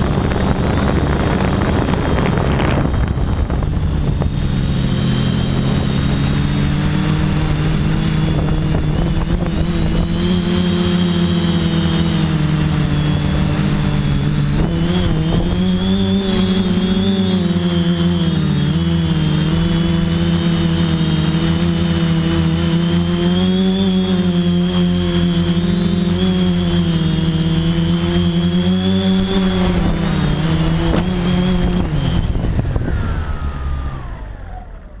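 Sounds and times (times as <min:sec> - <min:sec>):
high motor whine: 0:00.0 - 0:35.0
quadcopter motors humming: 0:00.0 - 0:35.0.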